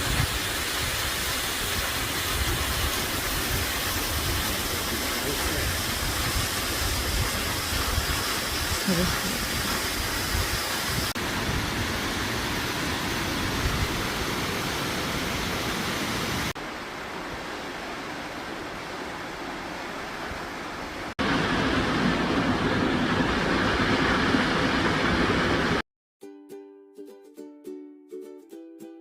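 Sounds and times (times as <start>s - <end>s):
waterfall rushing: 0.0s - 25.8s.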